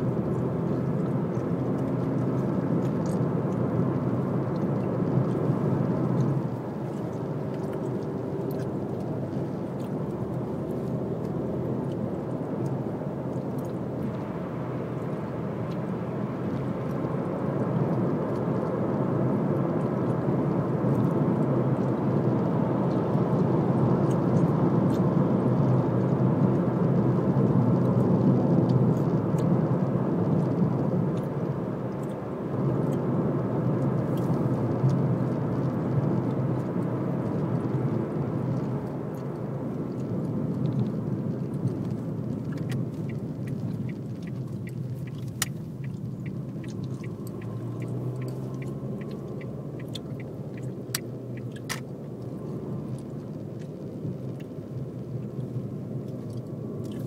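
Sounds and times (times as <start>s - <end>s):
car cabin road rumble: 0.0s - 57.0s.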